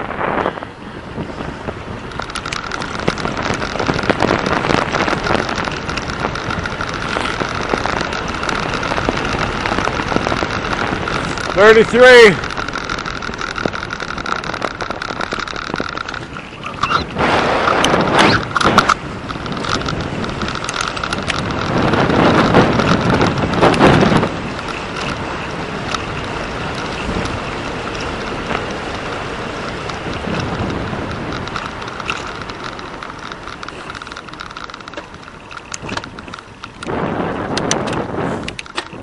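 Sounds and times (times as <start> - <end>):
tyres rolling on asphalt: 0.0 - 39.0
wind buffeting microphone: 0.0 - 39.0.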